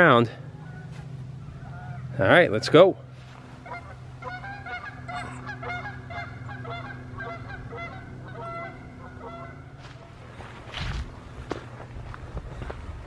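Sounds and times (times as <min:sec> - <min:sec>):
geese honking: 0:00.0 - 0:10.8.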